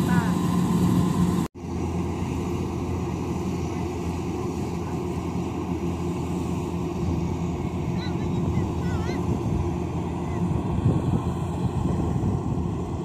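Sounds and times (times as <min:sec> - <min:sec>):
machine engine running: 0:00.0 - 0:13.0.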